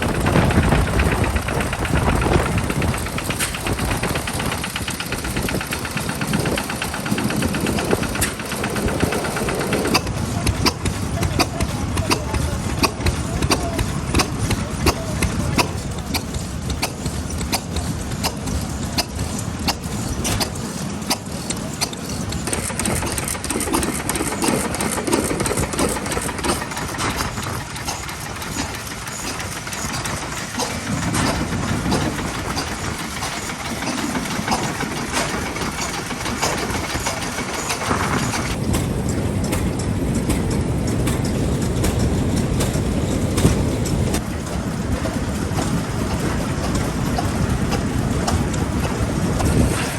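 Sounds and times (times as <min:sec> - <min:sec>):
sharp engine ticks: 0:00.0 - 0:49.7
stationary engines running: 0:00.0 - 0:49.9.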